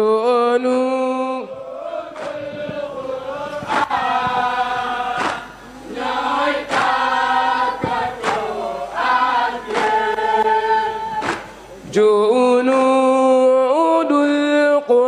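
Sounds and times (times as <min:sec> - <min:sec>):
boys' choir chanting: 0:01.3 - 0:15.0.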